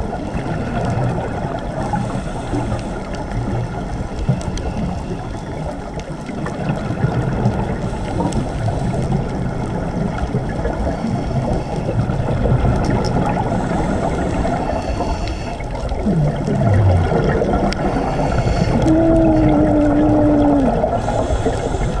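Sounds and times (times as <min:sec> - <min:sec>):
underwater regulator bubbles: 0:00.0 - 0:22.0.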